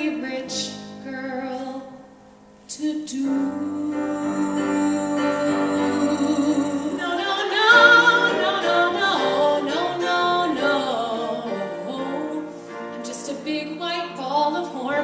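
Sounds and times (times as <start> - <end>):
woman singing: 0.0 - 2.0, 2.7 - 15.0
piano accompaniment: 0.0 - 15.0.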